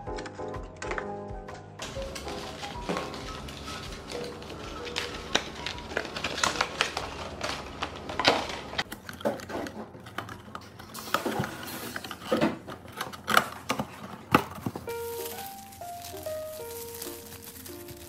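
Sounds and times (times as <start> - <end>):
cardboard boxes being folded: 1.8 - 18.0.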